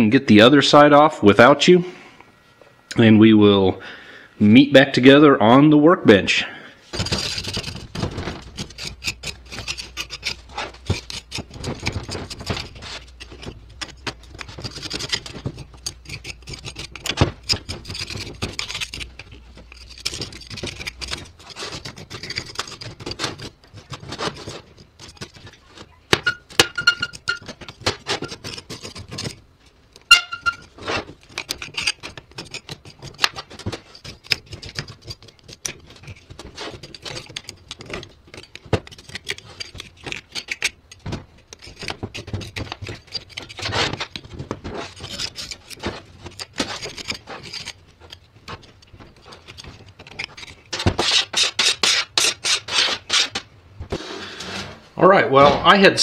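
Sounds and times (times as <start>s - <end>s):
metal tools scraping dirt: 6.9s - 55.0s.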